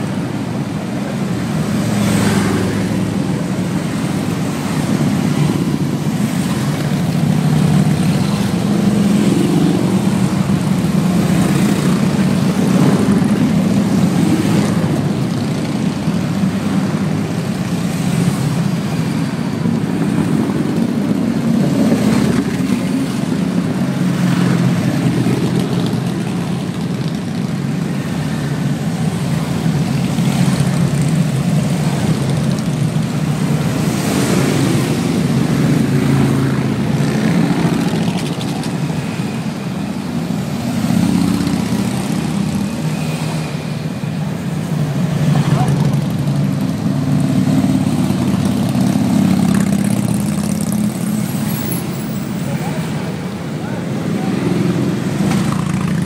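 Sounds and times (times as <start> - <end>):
motorcycles riding past: 0.0 - 56.0.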